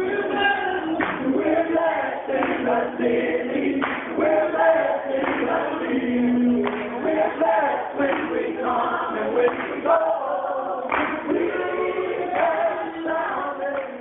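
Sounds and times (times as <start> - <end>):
gospel choir singing: 0.0 - 14.0.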